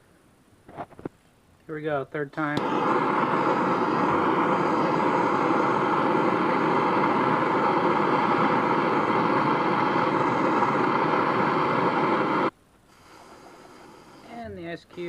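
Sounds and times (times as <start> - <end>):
gas torch hissing: 2.4 - 14.5.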